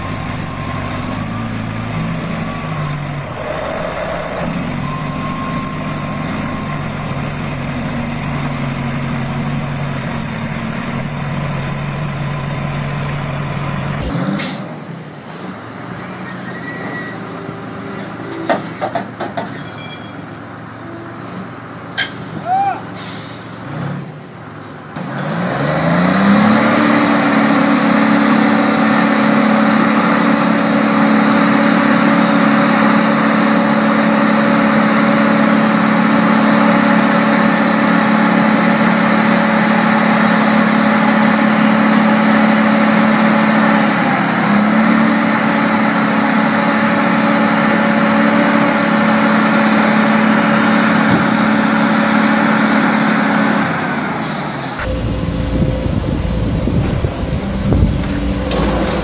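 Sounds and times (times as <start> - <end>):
truck diesel engine revving: 0.0 - 19.3, 20.2 - 59.0.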